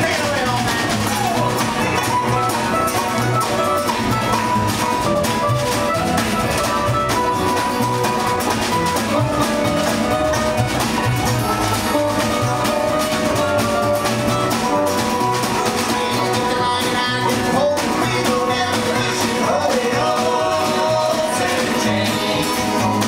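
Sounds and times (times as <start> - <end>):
acoustic guitar strumming: 0.0 - 23.0
banjo picking: 0.0 - 23.0
upright bass: 0.0 - 23.0.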